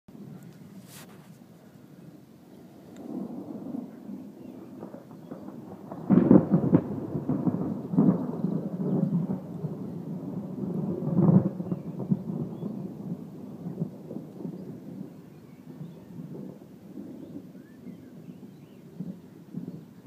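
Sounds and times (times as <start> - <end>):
thunder rumbling: 0.1 - 20.0.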